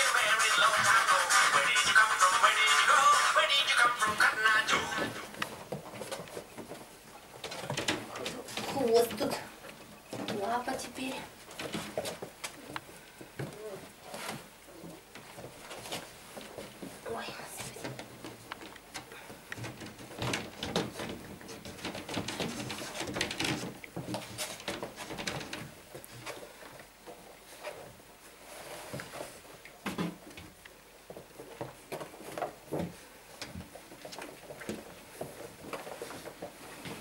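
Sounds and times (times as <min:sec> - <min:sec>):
puppy paws scratching on wood: 0:00.0 - 0:37.0.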